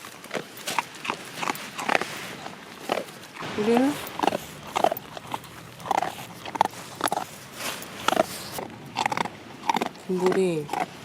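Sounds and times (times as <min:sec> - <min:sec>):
dog snorting and grunting: 0:00.3 - 0:11.0.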